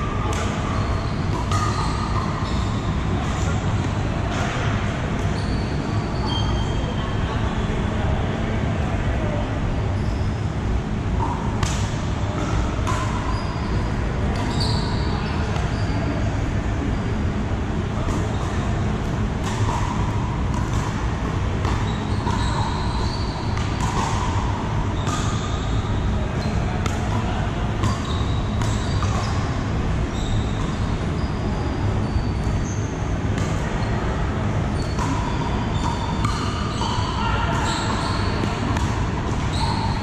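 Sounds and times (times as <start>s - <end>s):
steady background noise: 0.0s - 40.0s.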